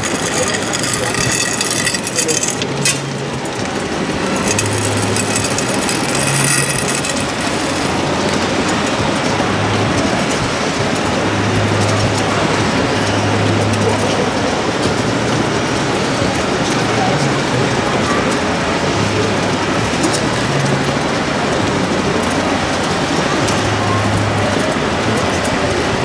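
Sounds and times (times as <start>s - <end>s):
model vehicles running: 0.0s - 26.0s.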